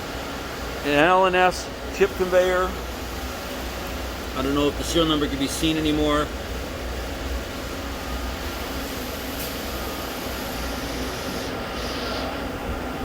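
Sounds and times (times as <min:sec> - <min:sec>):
machinery and ventilation hum: 0:00.0 - 0:13.0.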